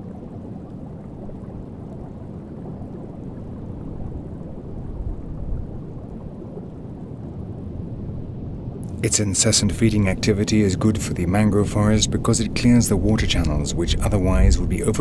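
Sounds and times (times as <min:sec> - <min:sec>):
underwater rumble of moving water: 0:00.0 - 0:15.0.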